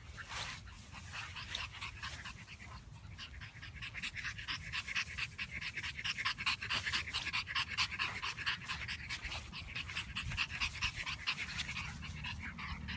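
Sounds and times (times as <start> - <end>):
puppies panting: 0.0 - 12.9.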